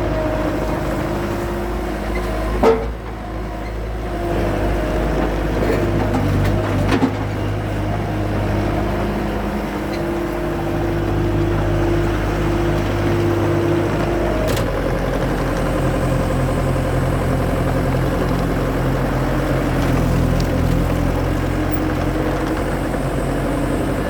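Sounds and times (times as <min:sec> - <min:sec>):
skid steer engine running: 0:00.0 - 0:24.0.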